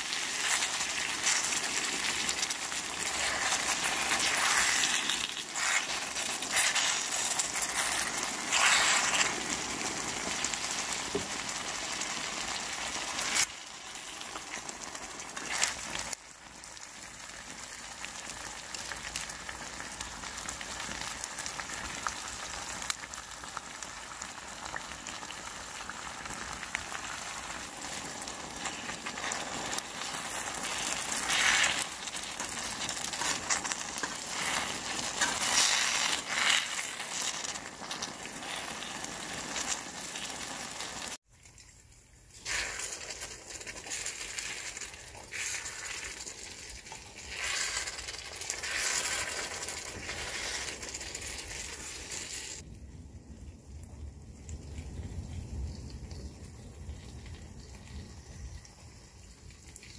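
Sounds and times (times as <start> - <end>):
stir-fry sizzling in a pan: 0.0 - 41.2, 42.5 - 52.6
small crackles and clicks: 0.0 - 52.7, 53.3 - 59.9.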